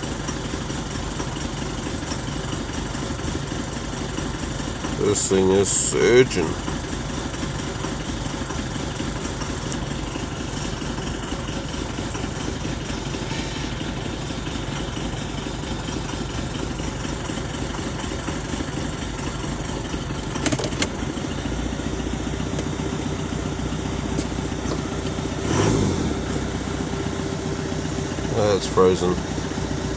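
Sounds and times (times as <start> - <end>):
diesel engine idling roughly: 0.0 - 29.9.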